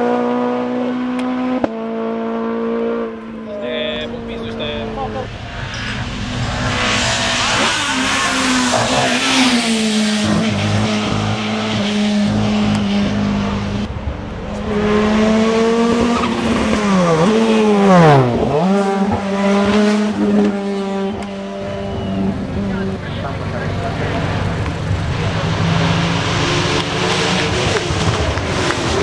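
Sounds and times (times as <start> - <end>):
race car engine at high revs: 0.0 - 29.0.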